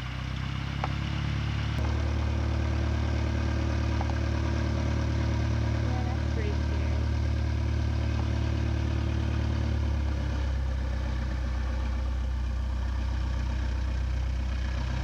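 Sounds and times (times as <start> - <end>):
airplane engine idling: 0.0 - 15.0.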